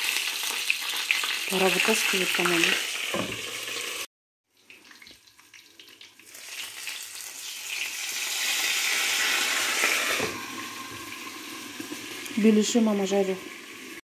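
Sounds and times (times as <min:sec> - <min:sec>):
meat pies sizzling in a frying pan: 0:00.0 - 0:14.0.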